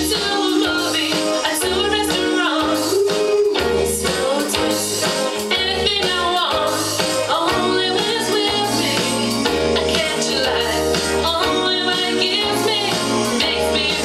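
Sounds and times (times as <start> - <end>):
bass line: 0.0 - 14.0
pop song with singing: 0.0 - 14.0.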